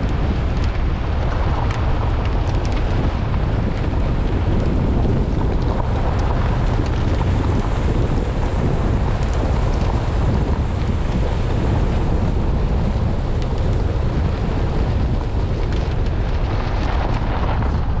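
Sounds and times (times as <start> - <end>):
vehicle driving on gravel: 0.0 - 18.0
wind buffeting microphone: 0.0 - 18.0.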